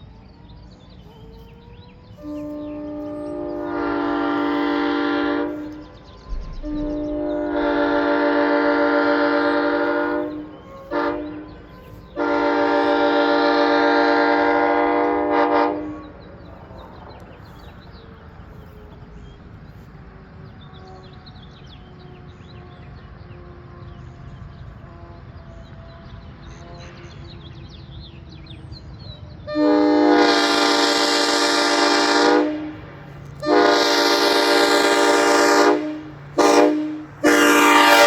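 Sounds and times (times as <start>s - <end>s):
locomotive air horn blasts: 2.1s - 27.7s, 29.4s - 38.0s.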